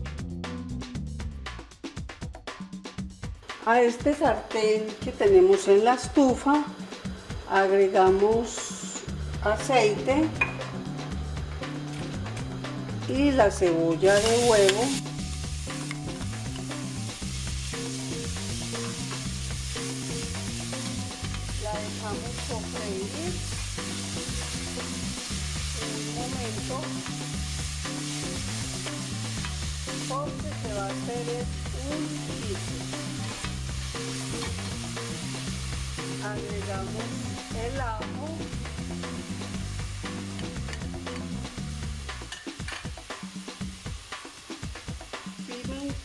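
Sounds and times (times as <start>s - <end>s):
onion sizzling in frying pan: 3.7s - 46.0s.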